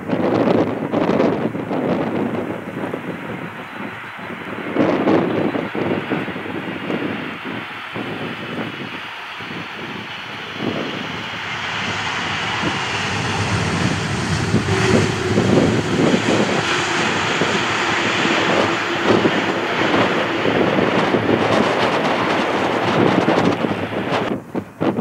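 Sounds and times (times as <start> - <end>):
airliner engines rushing: 0.0 - 25.0.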